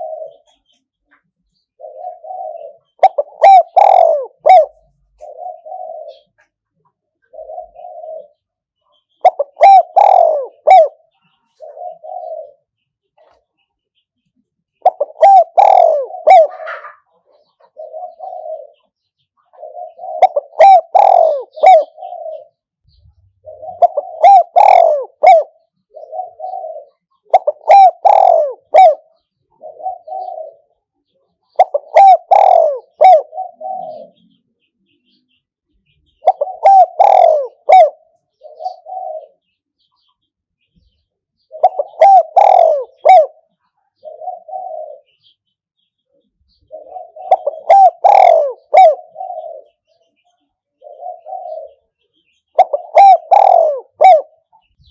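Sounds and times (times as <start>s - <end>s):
dove cooing: 0.0s - 13.5s, 14.8s - 35.2s, 35.8s - 40.1s, 40.7s - 54.9s.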